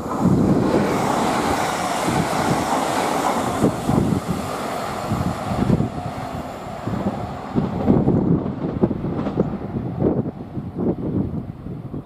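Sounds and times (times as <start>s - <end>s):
train passing: 0.0s - 12.0s
wind buffeting microphone: 0.0s - 12.0s.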